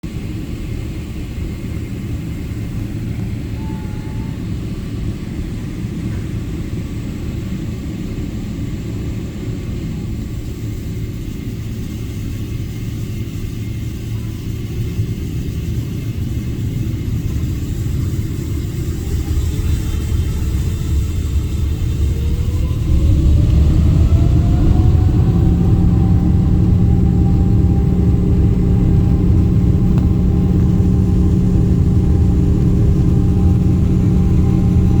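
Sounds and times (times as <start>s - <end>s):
jet engines rumbling: 0.0s - 35.0s
jet engine whine rising: 0.1s - 35.0s.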